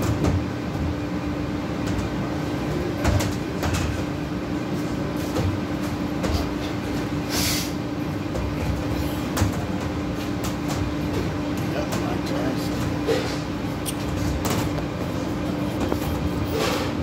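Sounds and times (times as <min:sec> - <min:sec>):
kitchen equipment and ventilation hum: 0:00.0 - 0:17.0.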